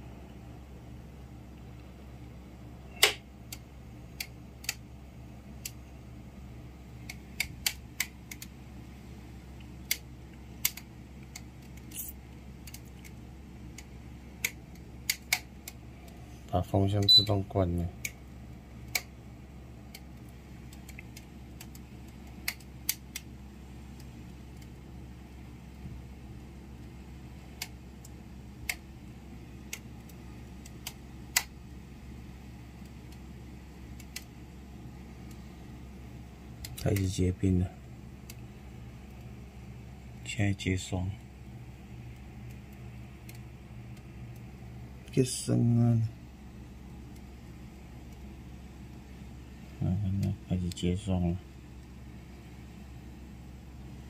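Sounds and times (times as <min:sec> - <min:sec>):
steady low hum: 0:00.0 - 0:54.0
ticks and crackles of icing coil: 0:00.3 - 0:54.0.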